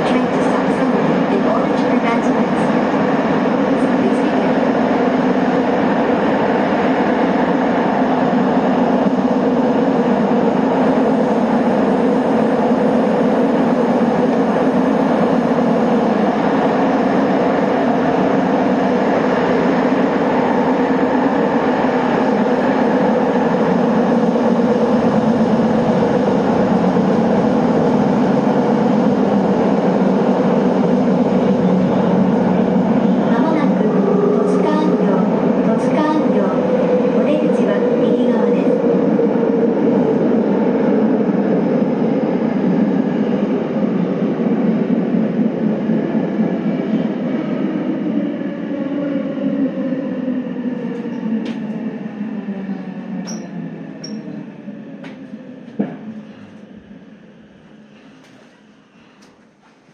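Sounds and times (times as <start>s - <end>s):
subway train rumbling in tunnel: 0.0s - 59.9s.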